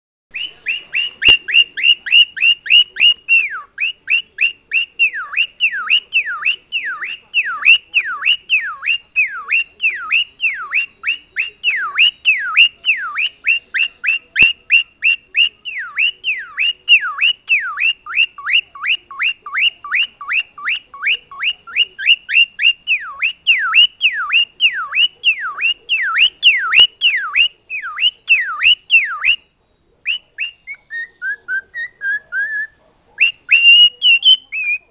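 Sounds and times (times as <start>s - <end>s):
cockatiel whistling: 0.3s - 34.9s.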